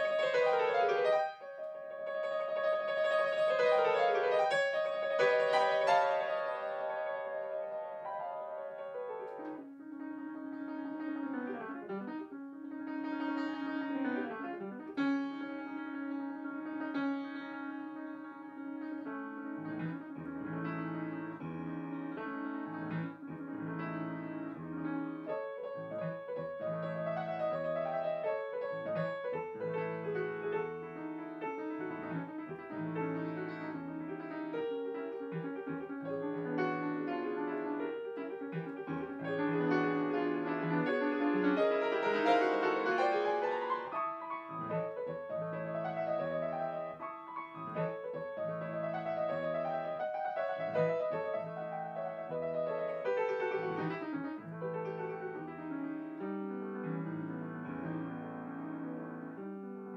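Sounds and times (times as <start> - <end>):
grand piano classical piece: 0.0 - 59.9.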